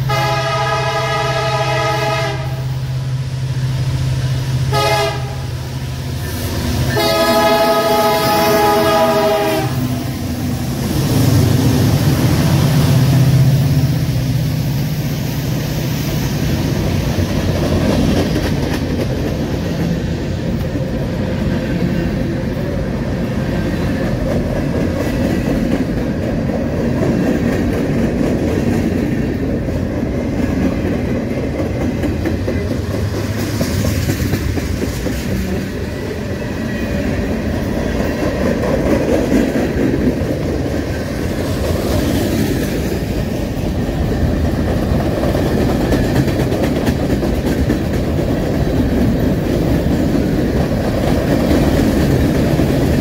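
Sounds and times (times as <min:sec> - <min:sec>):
diesel locomotive engine passing: 0:00.0 - 0:53.0
train wheels rolling on rails: 0:00.0 - 0:53.0.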